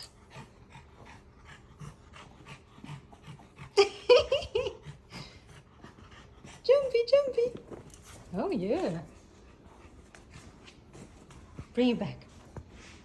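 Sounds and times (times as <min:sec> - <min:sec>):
dog panting: 0:00.1 - 0:13.0.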